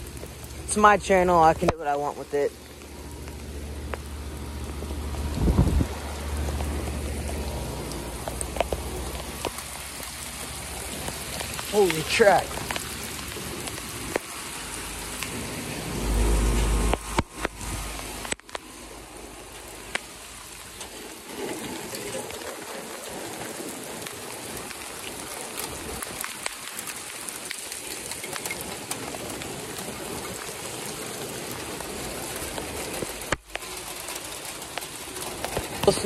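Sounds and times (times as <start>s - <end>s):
heavy rain on pavement and metal: 0.0s - 36.0s.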